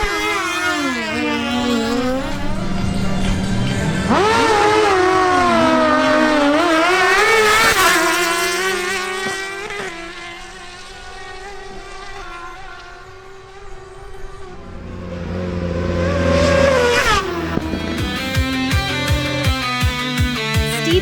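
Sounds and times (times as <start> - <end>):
motorcycle engines at full throttle: 0.0 - 21.0.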